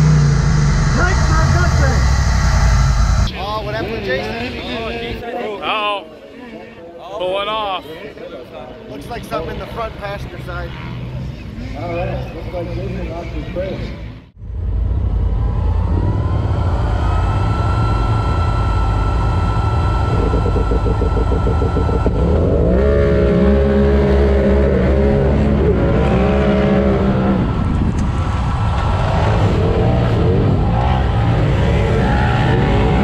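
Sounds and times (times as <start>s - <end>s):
racing engines whining: 0.0s - 5.2s, 8.9s - 33.0s.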